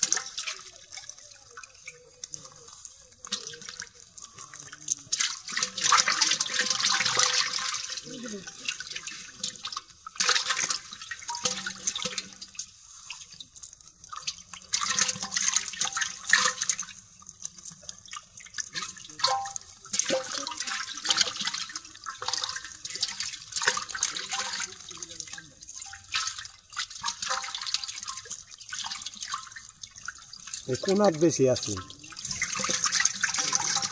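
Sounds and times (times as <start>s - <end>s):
fish splashing in water: 0.0s - 33.9s.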